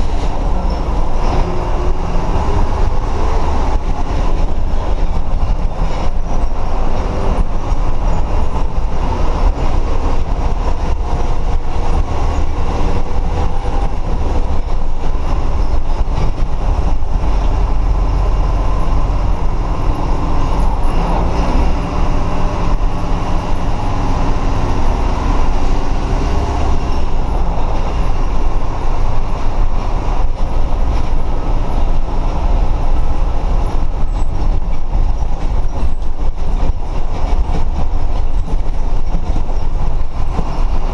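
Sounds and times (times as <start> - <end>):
diesel engine rumble: 0.0 - 40.9
road noise: 0.0 - 40.9.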